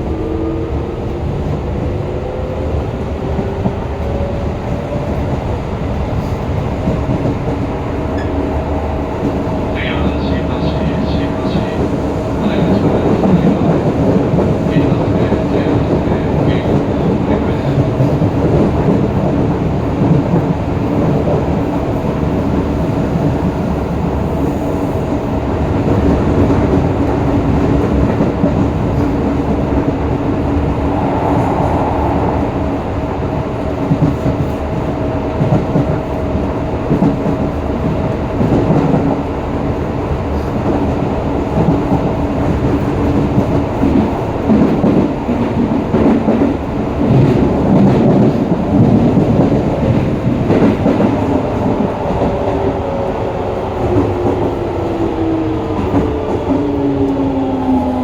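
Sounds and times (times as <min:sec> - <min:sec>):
train wheels rumbling on rails: 0:00.0 - 0:58.0
clickety-clack from rail joints: 0:02.8 - 0:31.9, 0:33.6 - 0:58.0.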